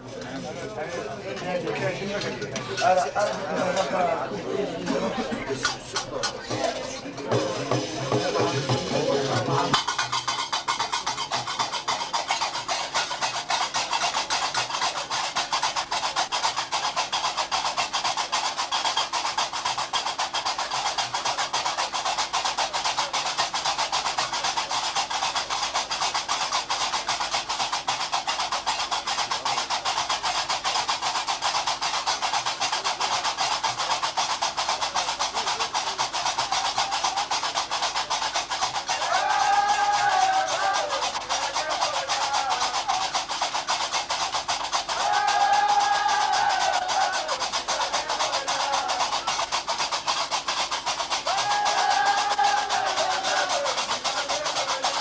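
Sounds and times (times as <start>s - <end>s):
iron castanets clattering: 5.3s - 55.0s.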